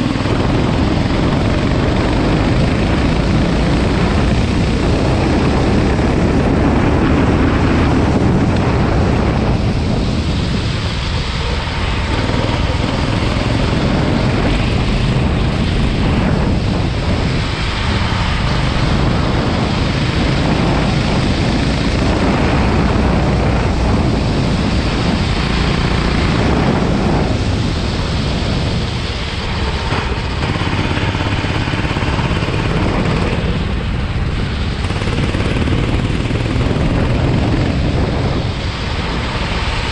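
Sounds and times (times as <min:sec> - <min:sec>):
go-kart engine revving: 0:00.0 - 0:39.9
steady rushing noise: 0:00.0 - 0:39.9.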